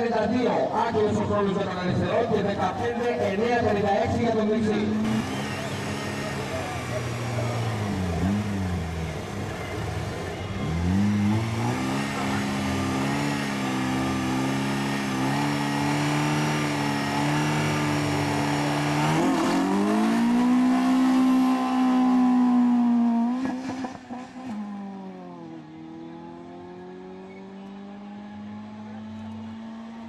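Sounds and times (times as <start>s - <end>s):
car engine revving and accelerating: 4.4s - 30.0s.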